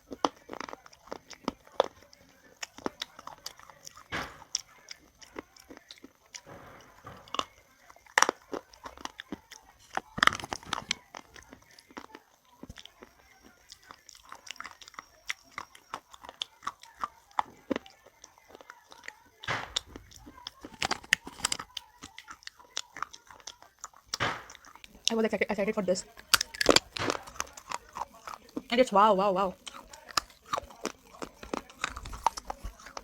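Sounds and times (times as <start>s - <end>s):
crunching and chewing crisp food: 0.0s - 33.0s.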